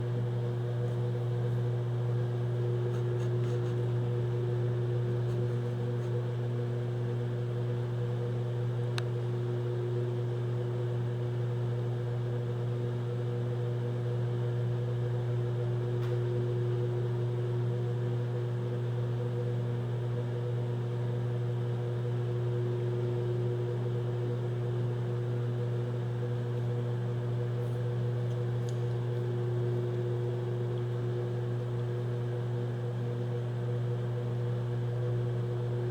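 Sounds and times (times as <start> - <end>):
microwave oven humming: 0.0 - 35.9.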